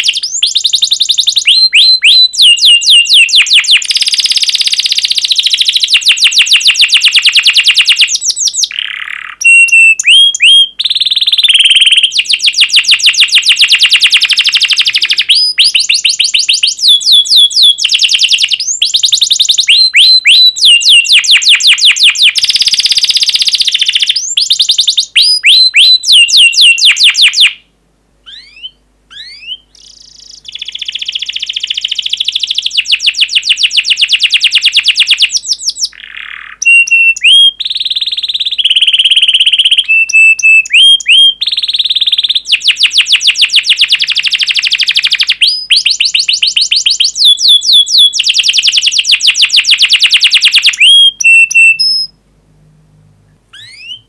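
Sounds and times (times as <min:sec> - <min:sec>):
canary singing trills: 0:00.0 - 0:52.2, 0:53.5 - 0:54.0.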